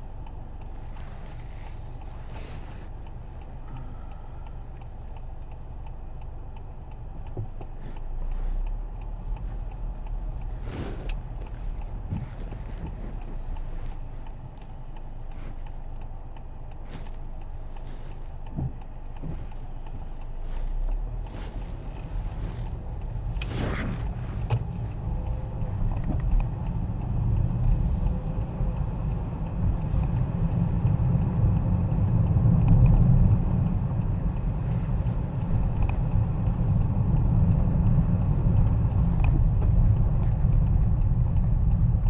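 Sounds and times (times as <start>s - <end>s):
car engine and tyre rumble: 0.0s - 42.0s
light ticks: 0.0s - 42.0s.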